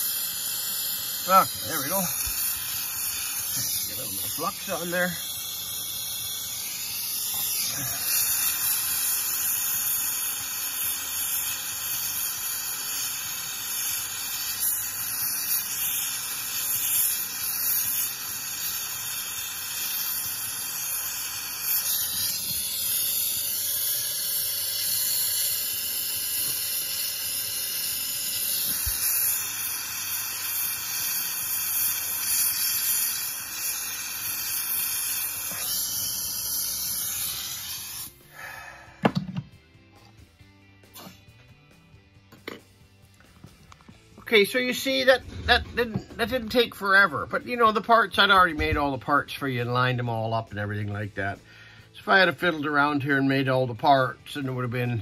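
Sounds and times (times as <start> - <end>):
soldering torch hissing: 0.0 - 39.2, 44.0 - 55.0.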